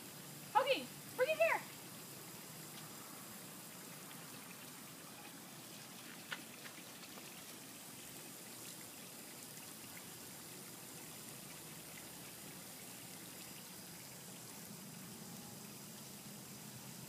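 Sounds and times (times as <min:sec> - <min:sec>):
sprinklers hissing: 0:00.0 - 0:17.0.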